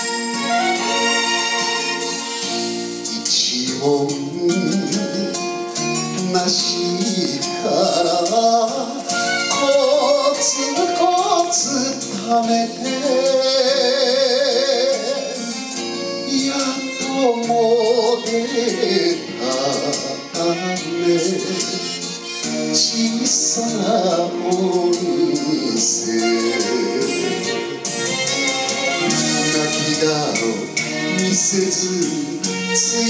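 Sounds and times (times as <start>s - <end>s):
instrumental backing track: 0.0s - 33.0s
man singing with vibrato: 0.0s - 33.0s.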